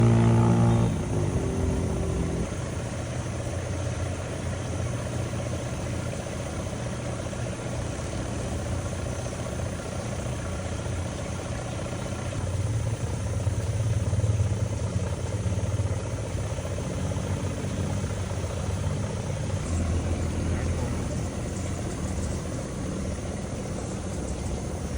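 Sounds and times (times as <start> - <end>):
boat diesel engine humming: 0.0 - 24.9.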